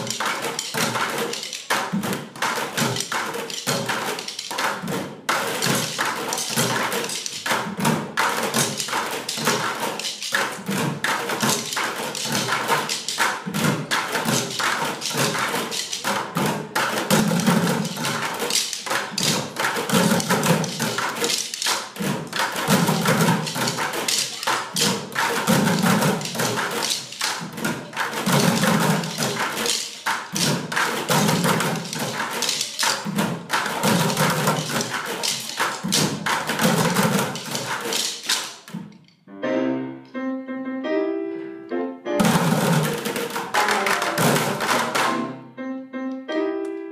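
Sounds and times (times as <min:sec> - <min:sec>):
children drumming on plastic buckets: 0:00.0 - 0:39.0, 0:42.2 - 0:45.4.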